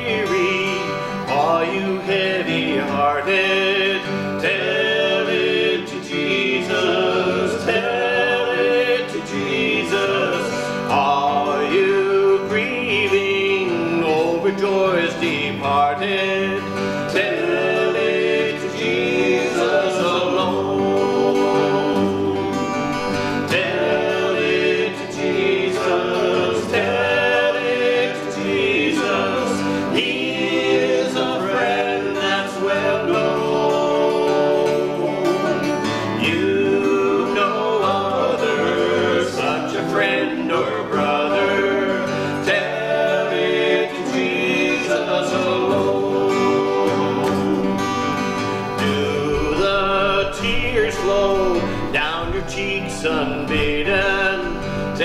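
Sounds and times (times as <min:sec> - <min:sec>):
acoustic guitars: 0:00.0 - 0:55.0
men singing a hymn: 0:00.0 - 0:55.0.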